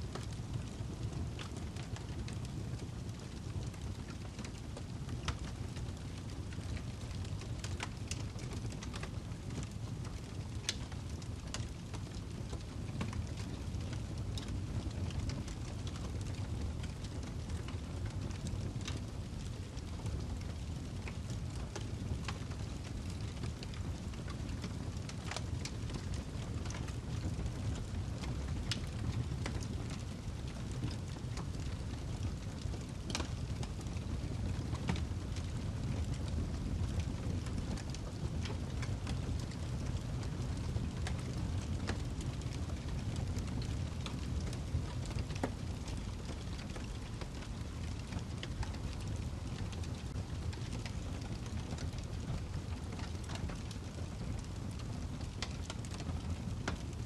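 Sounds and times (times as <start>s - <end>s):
fire flames rumbling: 0.0s - 57.0s
wood fire crackling and popping: 0.0s - 57.0s.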